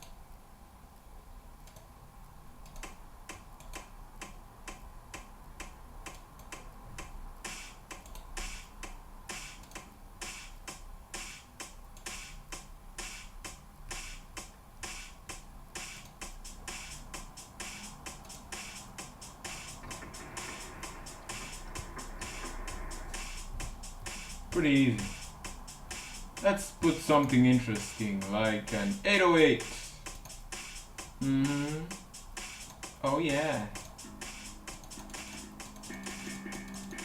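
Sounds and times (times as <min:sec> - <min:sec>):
ticking click pattern: 0:01.6 - 0:37.0
hissy hi-hat hits: 0:02.8 - 0:37.0.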